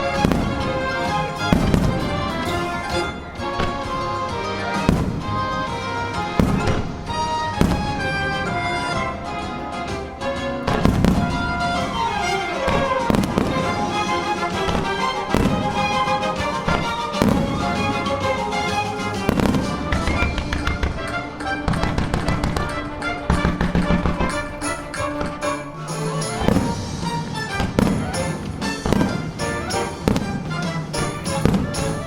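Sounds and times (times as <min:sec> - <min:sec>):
firework crackling: 0:00.0 - 0:32.0
firework shells bursting: 0:00.0 - 0:32.0
music: 0:00.0 - 0:32.0.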